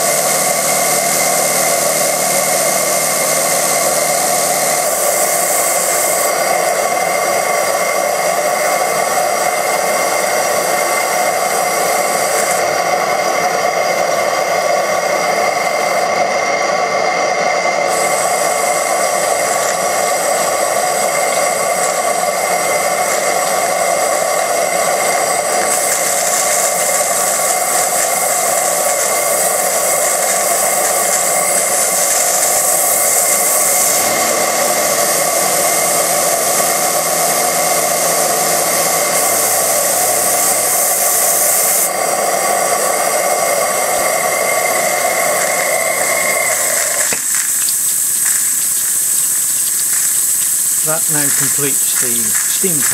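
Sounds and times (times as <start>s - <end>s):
exhaust steam hissing: 0.0s - 52.9s
model steam engine running: 0.0s - 52.9s.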